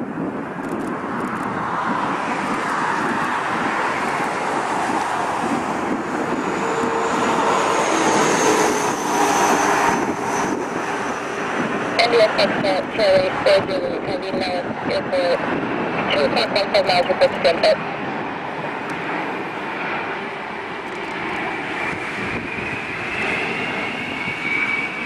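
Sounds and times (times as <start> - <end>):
jet engine roar: 0.0 - 25.0
high engine whine: 0.2 - 25.0.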